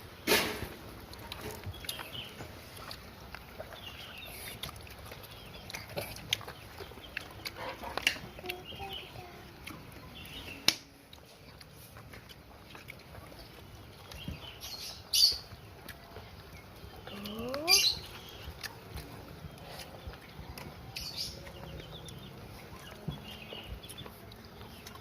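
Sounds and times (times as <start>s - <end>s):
chickens clucking: 0.2s - 25.0s.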